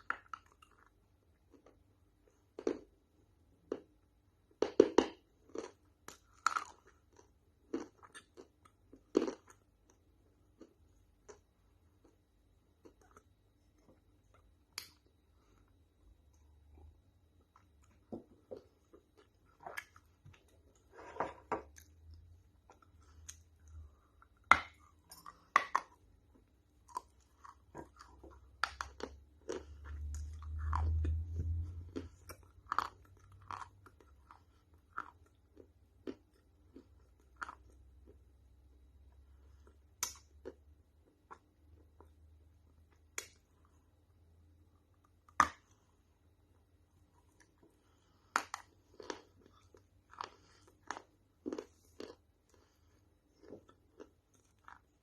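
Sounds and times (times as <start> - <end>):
person chewing crunchy food: 0.0 - 43.9, 44.8 - 55.0.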